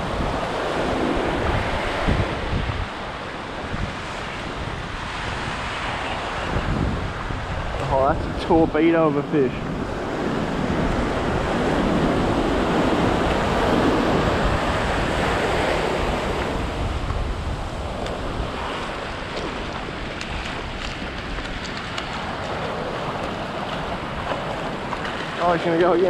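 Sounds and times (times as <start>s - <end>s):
waves washing over sand: 0.0s - 26.0s
wind buffeting microphone: 0.0s - 26.0s.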